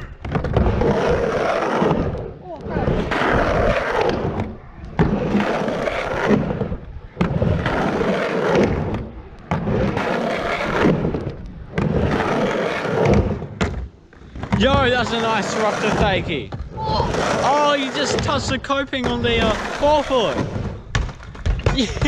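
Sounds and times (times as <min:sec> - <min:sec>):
skateboard wheels rumbling on ramp: 0:00.0 - 0:22.0.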